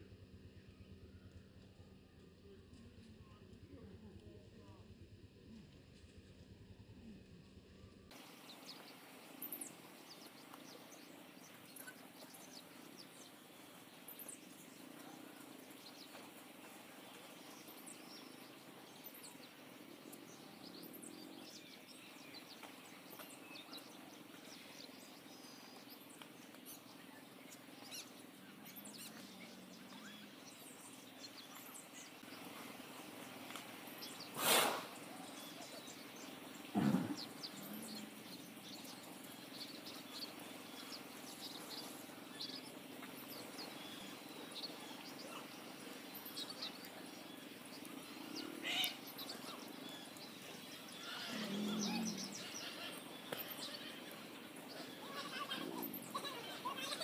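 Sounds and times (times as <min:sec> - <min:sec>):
steady low hum: 0:00.0 - 0:56.6
small birds chirping: 0:08.1 - 0:57.0.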